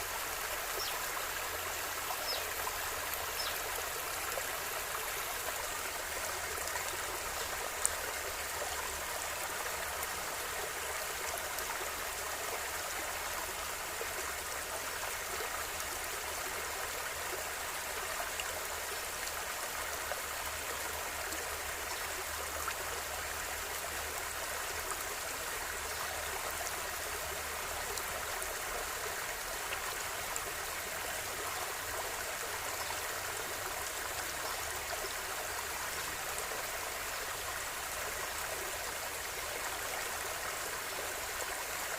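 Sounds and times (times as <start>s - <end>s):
river water flowing: 0.0s - 41.9s.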